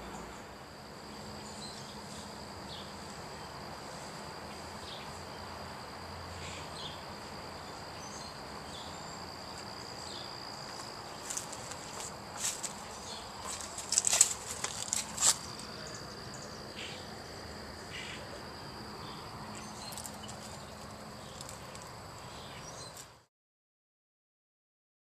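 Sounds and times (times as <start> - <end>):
insects trilling: 0.0 - 23.3
outdoor background hiss: 0.0 - 23.3.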